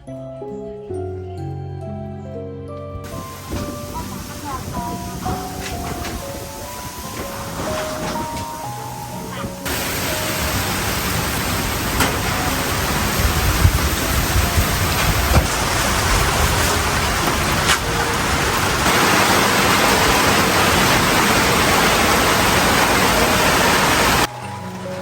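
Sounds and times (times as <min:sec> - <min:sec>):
soft music: 0:00.0 - 0:18.8, 0:19.6 - 0:25.0
heavy rain falling: 0:03.1 - 0:25.0.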